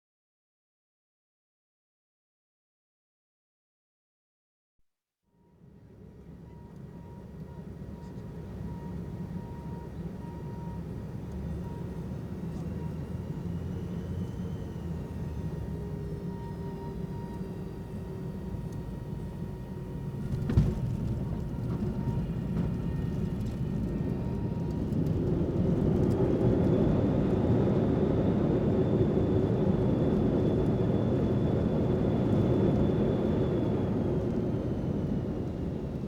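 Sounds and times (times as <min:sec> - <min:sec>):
high steady engine whine: 0:05.5 - 0:36.0
airliner engine rumble: 0:05.7 - 0:36.0.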